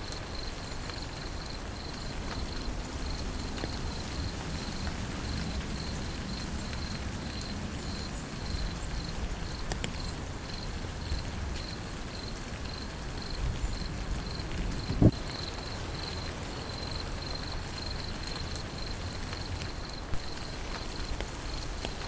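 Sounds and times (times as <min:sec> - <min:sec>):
insect chirping: 0:00.0 - 0:21.7
steady rainfall: 0:00.0 - 0:22.0.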